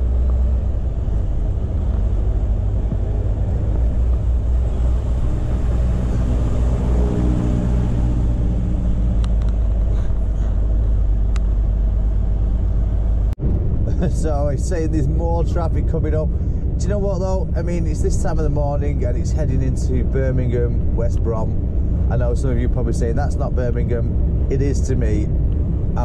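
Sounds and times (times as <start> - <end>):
diesel engine drone: 0.0 - 26.0
road rumble inside cab: 0.0 - 26.0.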